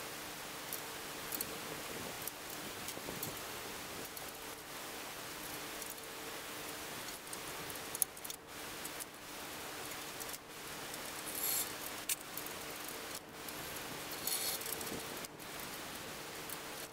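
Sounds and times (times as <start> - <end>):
steady background hiss: 0.0 - 16.9.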